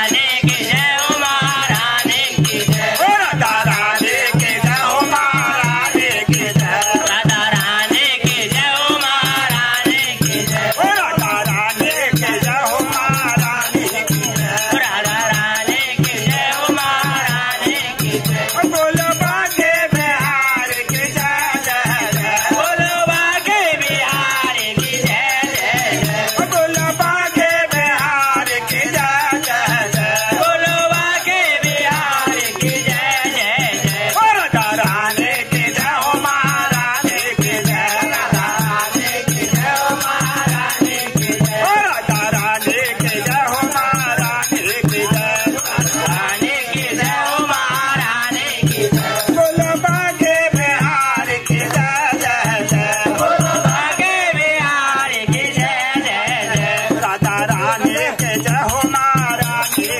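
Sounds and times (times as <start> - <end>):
jingling hand percussion: 0.0 - 59.9
men singing together: 0.0 - 59.9
steady drum beat: 0.0 - 59.9.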